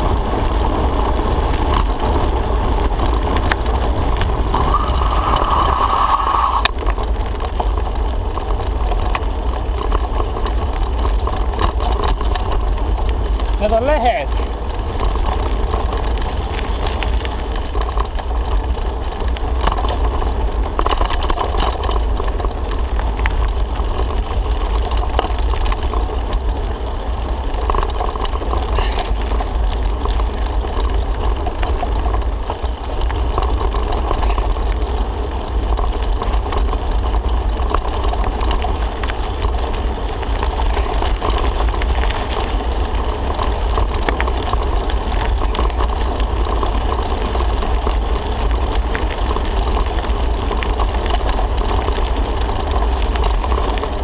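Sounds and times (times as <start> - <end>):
bicycle rattling: 0.0 - 54.0
bicycle tyre noise: 0.0 - 54.0
wind rumble on microphone: 0.0 - 54.0.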